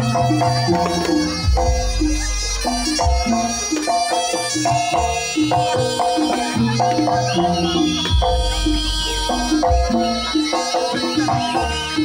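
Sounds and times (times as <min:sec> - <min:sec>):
gamelan music: 0:00.0 - 0:12.0
metallophone notes: 0:00.0 - 0:12.0
reedy shawm melody: 0:00.0 - 0:12.0.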